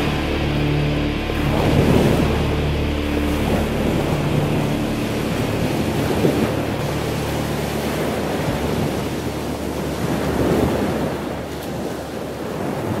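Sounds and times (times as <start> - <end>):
motorboat engine droning: 0.0 - 13.0
water noise: 0.0 - 13.0
wind: 0.0 - 13.0.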